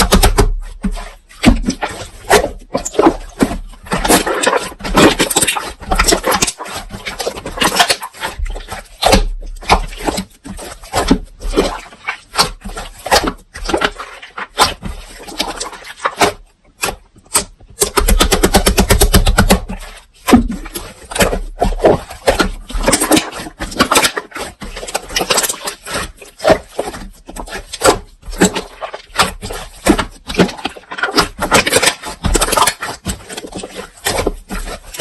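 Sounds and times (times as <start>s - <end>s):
slime squished by hand: 0.0s - 35.0s.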